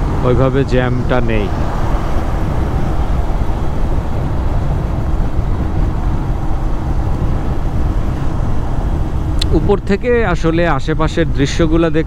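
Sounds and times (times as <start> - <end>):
road noise: 0.0 - 12.0
wind rushing on microphone: 0.0 - 12.0.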